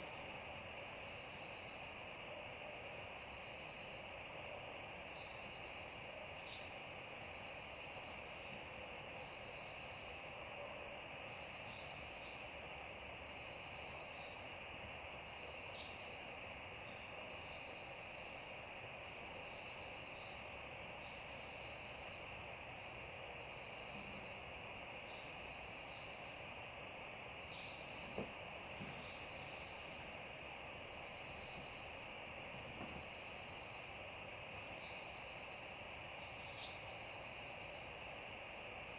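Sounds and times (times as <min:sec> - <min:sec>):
crickets trilling: 0:00.1 - 0:38.9.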